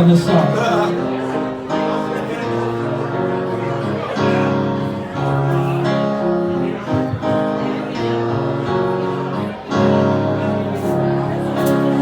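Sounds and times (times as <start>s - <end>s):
live band playing slow soul: 0.0s - 12.0s.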